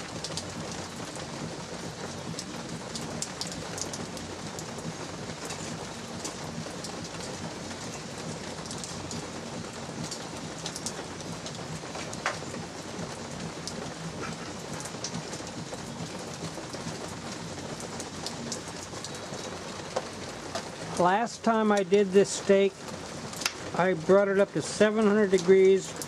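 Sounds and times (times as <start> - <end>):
light rain falling: 0.0 - 26.0
raindrops ticking: 0.0 - 26.0.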